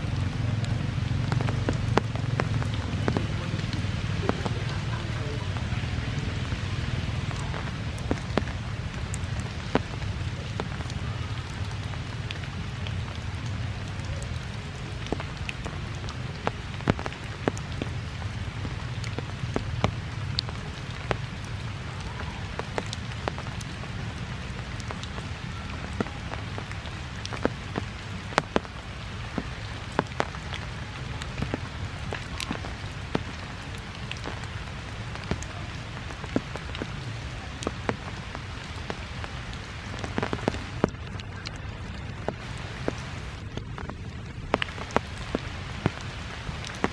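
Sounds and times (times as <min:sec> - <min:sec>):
rain falling on foliage: 0:00.0 - 0:46.9
taps of raindrops: 0:00.0 - 0:46.9.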